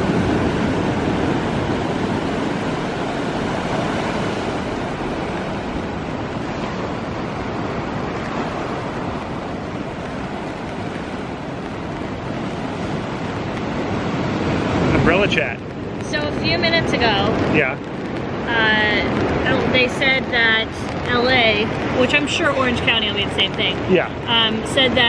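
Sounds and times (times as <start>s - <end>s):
blustery wind: 0.0s - 25.0s
ocean surf washing on beach: 0.0s - 25.0s.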